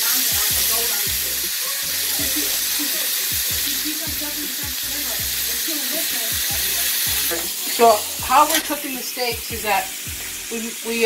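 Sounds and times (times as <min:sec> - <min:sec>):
background music with a beat: 0:00.0 - 0:10.7
meat sizzling in a frying pan: 0:00.0 - 0:11.0.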